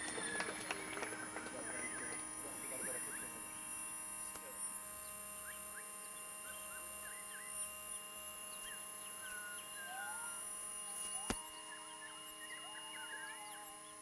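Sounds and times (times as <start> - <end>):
ambient electronic drone: 0.0 - 14.0.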